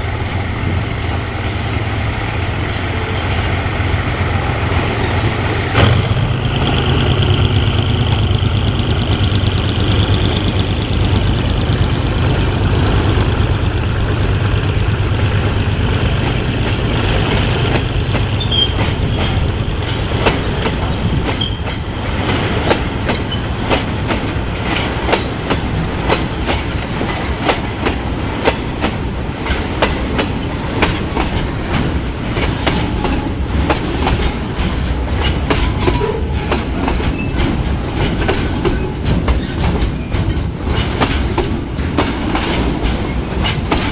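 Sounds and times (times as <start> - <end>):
train engine drone: 0.0 - 43.9
wheels clacking over rail joints: 0.0 - 43.9.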